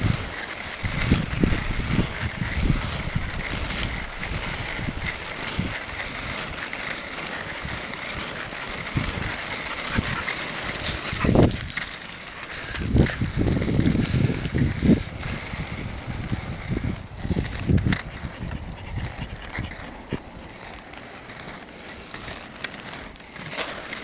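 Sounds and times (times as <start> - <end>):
wind buffeting microphone: 0.0 - 6.6, 7.2 - 21.0
skate wheels rolling on asphalt: 0.0 - 24.0.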